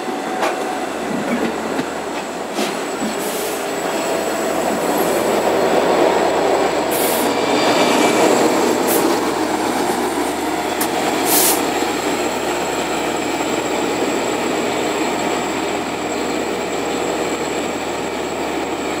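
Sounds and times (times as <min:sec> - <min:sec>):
train rolling past: 0:00.0 - 0:19.0.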